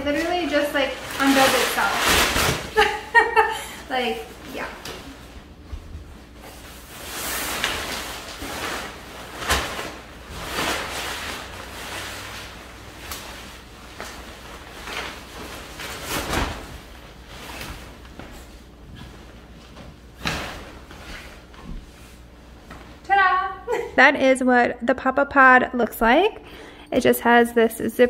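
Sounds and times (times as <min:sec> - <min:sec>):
nylon fabric rustling: 0:00.0 - 0:23.4.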